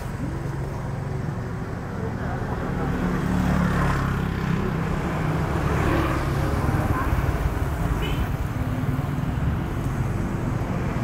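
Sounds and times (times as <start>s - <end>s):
motorcycle traffic rumble: 0.0s - 11.0s.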